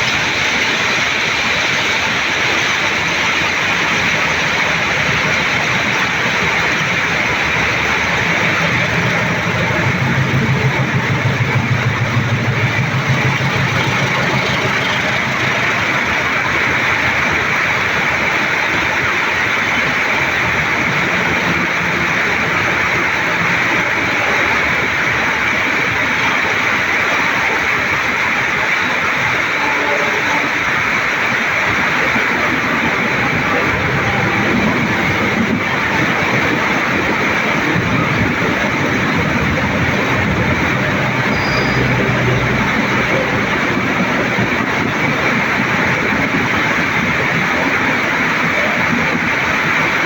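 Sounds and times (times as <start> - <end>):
diesel locomotive engine throb: 0.0 - 50.0
heavy rain: 0.0 - 50.0
train rolling: 0.0 - 50.0.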